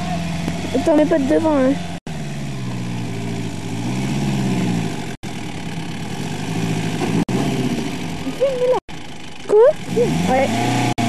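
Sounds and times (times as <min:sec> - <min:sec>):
vehicle engine at low revs: 0:00.0 - 0:11.0.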